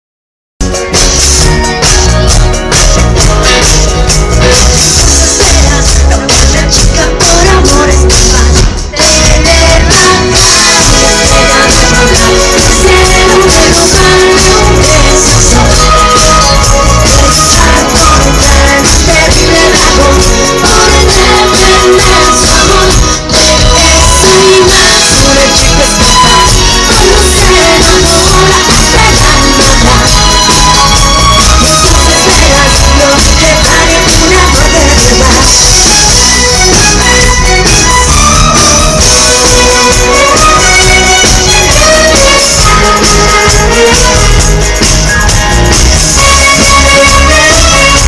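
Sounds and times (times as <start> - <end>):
pop-rock band playing: 0.6 - 48.0
person singing: 0.7 - 48.0.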